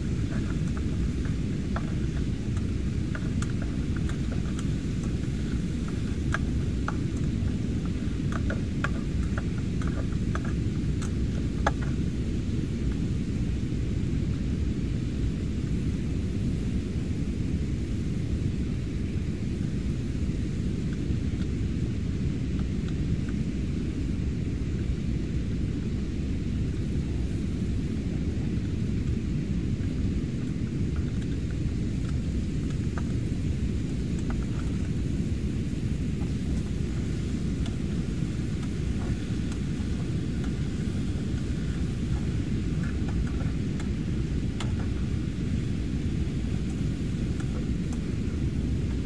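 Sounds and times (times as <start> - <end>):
wind: 0.0 - 49.0.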